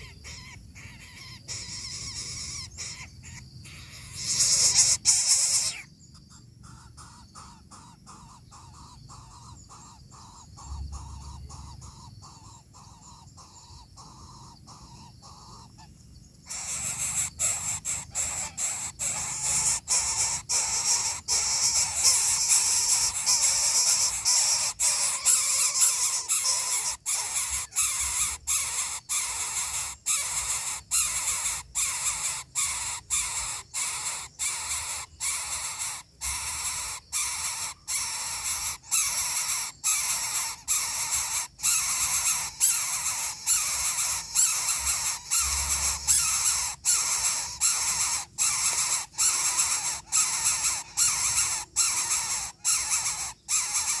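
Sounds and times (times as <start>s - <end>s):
nestlings rasping begging calls: 0.0s - 54.0s.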